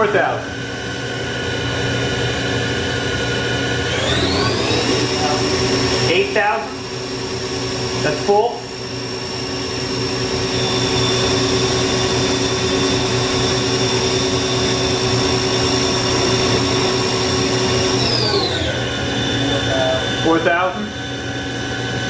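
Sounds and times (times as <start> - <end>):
machine spindle whining: 0.0 - 22.0
mechanical hum: 0.0 - 22.0.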